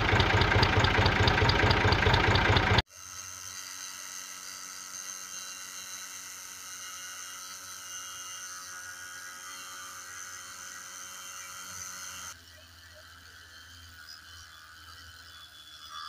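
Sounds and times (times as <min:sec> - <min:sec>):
toy motor whirring: 0:02.5 - 0:16.0.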